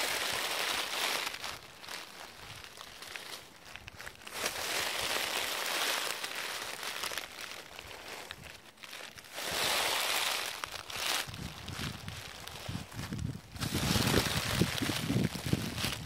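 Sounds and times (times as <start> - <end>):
footsteps crunching through dry leaves: 0.0 - 16.0.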